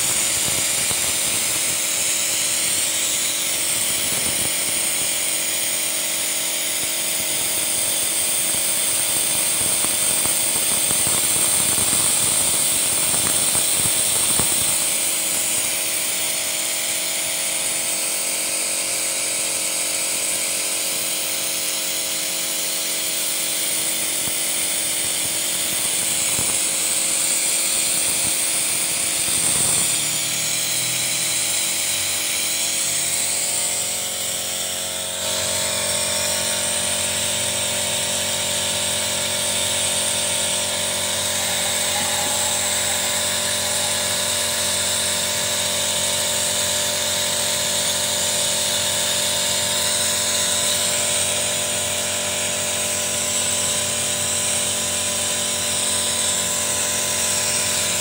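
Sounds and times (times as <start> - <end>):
vacuum suction machine hissing: 0.0 - 58.0.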